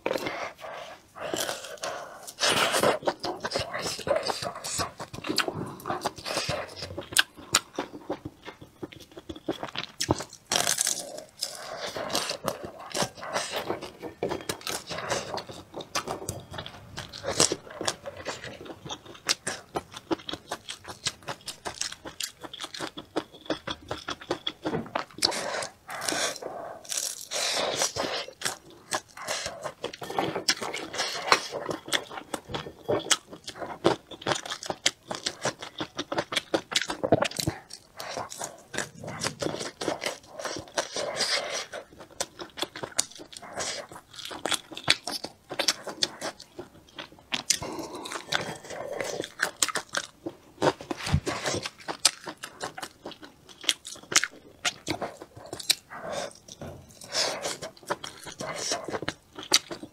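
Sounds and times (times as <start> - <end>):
person chewing with wet mouth sounds: 0.0 - 59.9.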